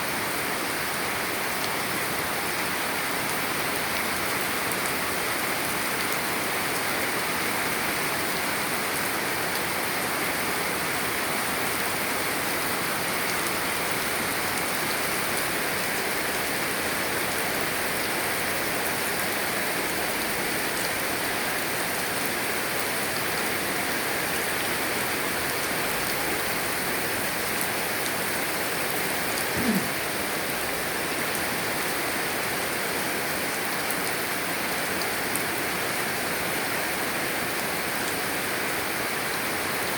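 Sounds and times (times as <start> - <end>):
heavy rain pouring: 0.1 - 39.9.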